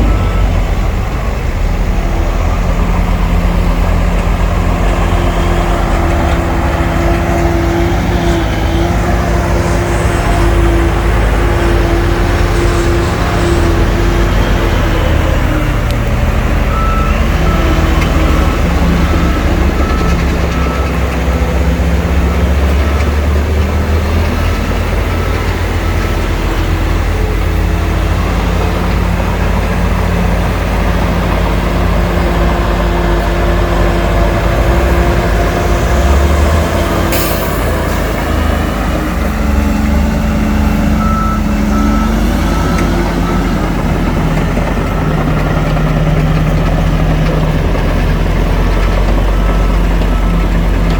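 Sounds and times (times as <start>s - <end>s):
reversing beeper: 0.0s - 29.2s, 29.8s - 50.9s
heavy diesel machinery running: 0.0s - 50.9s.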